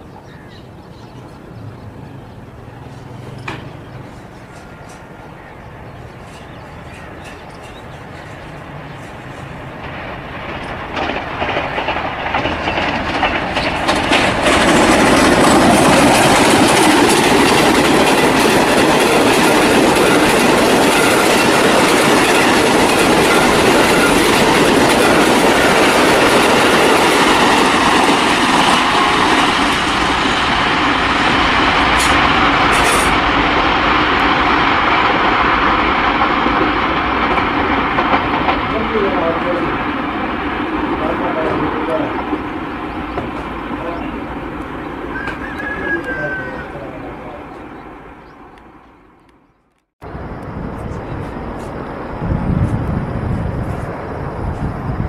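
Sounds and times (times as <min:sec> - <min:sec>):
passenger train passing: 0:00.0 - 0:55.0
railcar running on track: 0:00.0 - 0:55.0
wheels clattering over rail joints: 0:02.8 - 0:48.6.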